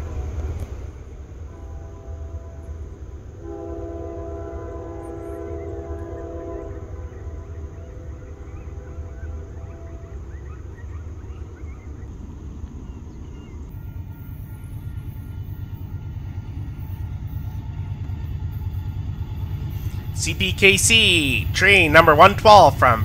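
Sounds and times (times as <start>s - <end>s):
diesel freight train rumbling: 0.0s - 23.0s
distant locomotive horn: 1.4s - 12.1s, 13.4s - 23.0s.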